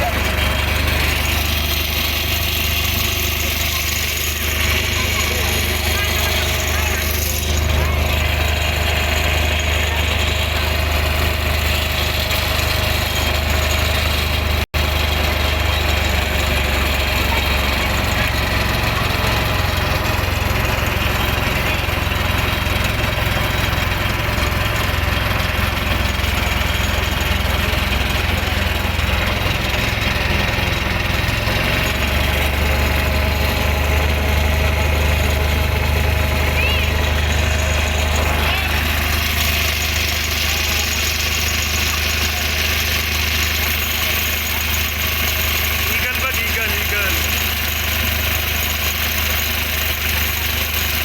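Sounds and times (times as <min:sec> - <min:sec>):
motor boat engine humming: 0:00.0 - 0:51.0.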